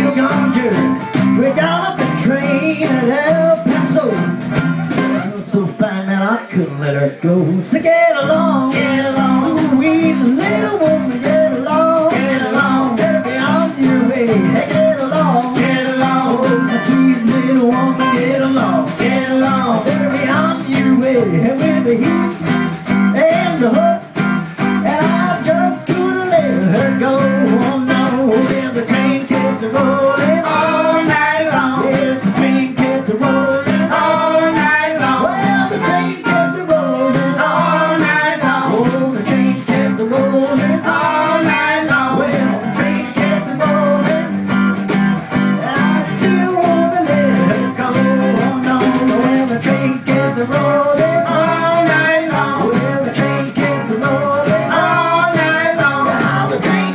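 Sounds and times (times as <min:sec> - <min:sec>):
skiffle band on acoustic guitars: 0:00.0 - 0:56.9.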